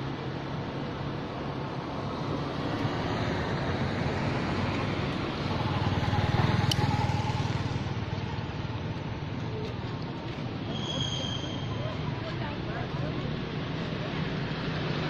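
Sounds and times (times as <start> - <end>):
passing vehicle engine: 0.0 - 15.0.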